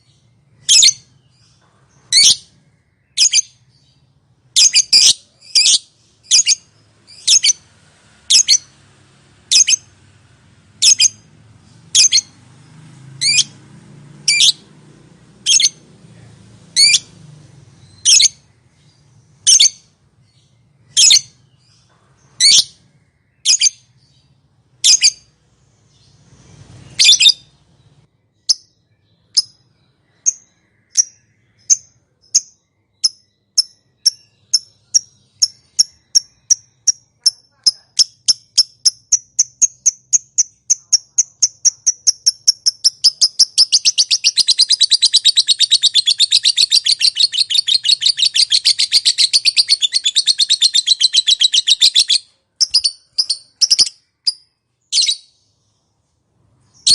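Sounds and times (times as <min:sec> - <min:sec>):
lovebird calling: 0:00.0 - 0:08.8, 0:09.4 - 0:10.0, 0:10.8 - 0:12.4, 0:13.2 - 0:13.6, 0:14.2 - 0:14.7, 0:15.4 - 0:15.8, 0:16.7 - 0:25.3, 0:26.9 - 0:28.7, 0:29.3 - 0:55.4.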